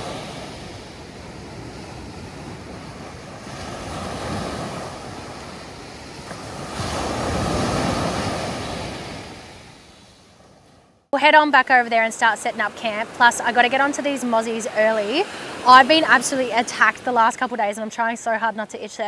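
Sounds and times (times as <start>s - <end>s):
ocean surf breaking on beach: 0.0s - 19.0s.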